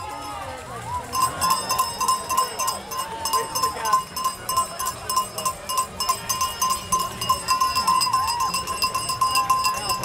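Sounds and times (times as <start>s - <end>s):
cowbell ringing fast: 0.0s - 10.0s
crowd voices: 0.0s - 10.0s.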